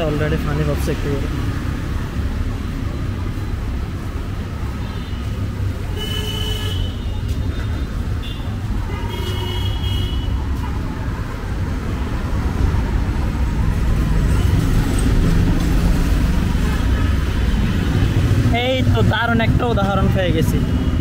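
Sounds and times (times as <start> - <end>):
traffic engine rumble: 0.0 - 21.0.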